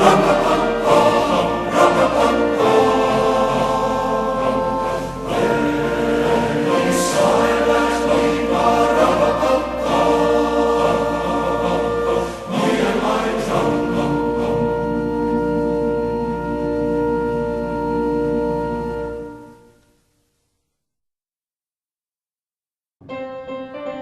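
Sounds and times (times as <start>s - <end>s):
choir singing held chords: 0.0s - 19.7s.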